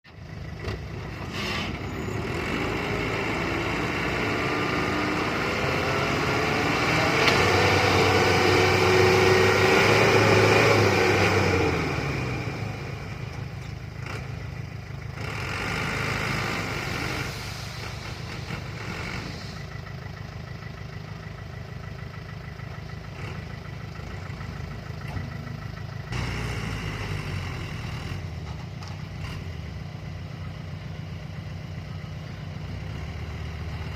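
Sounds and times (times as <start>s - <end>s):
truck engine revving: 0.2s - 20.9s, 22.0s - 30.5s, 32.5s - 33.9s.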